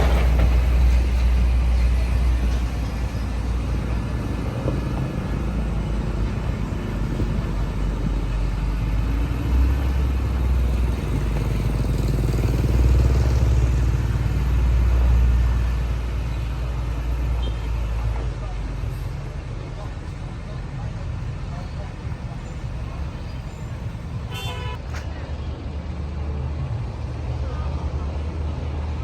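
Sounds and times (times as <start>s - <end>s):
diesel machinery rumbling: 0.0s - 29.0s.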